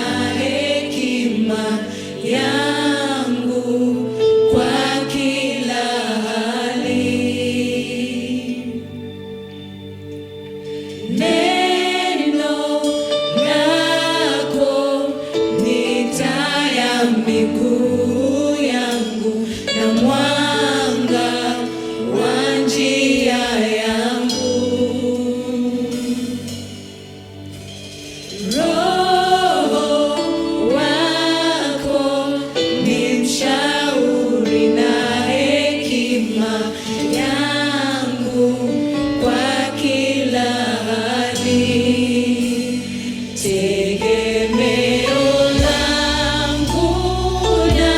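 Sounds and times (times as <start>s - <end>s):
voices singing gospel song: 0.0s - 9.4s, 11.0s - 27.0s, 28.0s - 47.9s
sustained instrumental backing: 0.0s - 47.9s.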